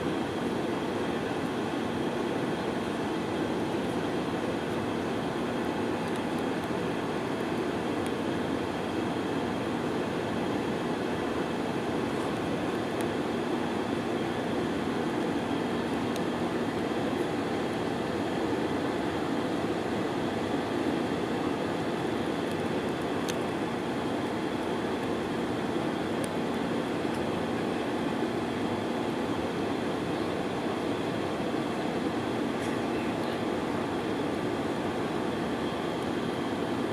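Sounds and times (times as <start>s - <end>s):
aircraft engines droning: 0.0s - 36.9s.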